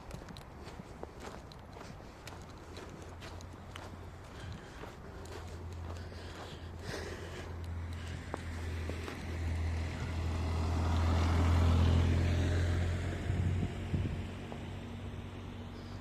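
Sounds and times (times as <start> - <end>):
vehicle passing by: 0.3 - 16.0.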